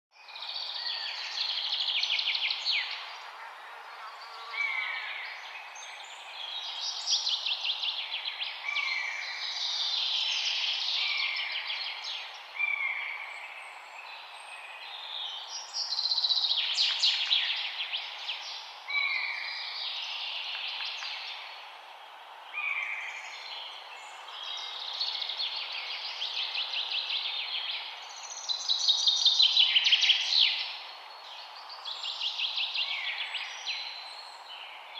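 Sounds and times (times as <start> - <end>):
background hiss: 0.4 - 34.9.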